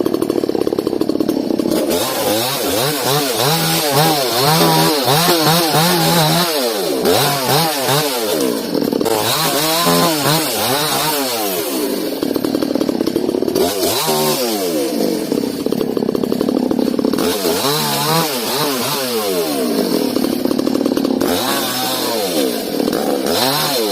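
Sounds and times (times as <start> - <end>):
chainsaw revving while cutting wood: 0.0 - 23.9.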